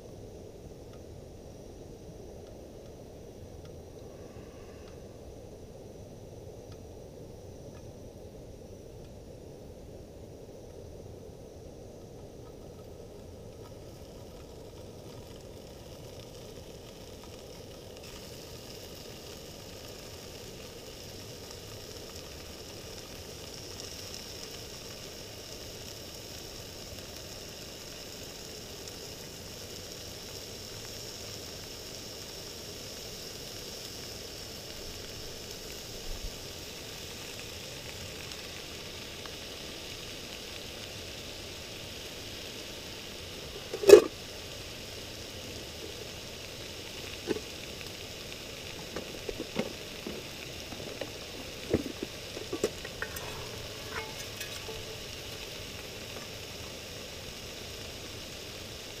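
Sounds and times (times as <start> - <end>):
bacon sizzling in frying pan: 0.0 - 59.0.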